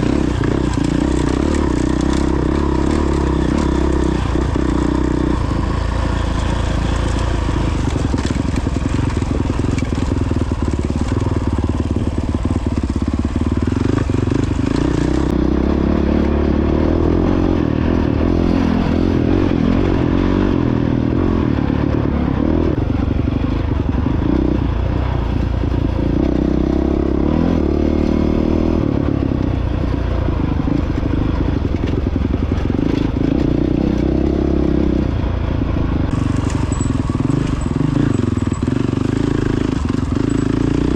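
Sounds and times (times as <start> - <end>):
dirt bike engine revving: 0.0 - 22.8, 23.8 - 29.3, 36.0 - 40.9.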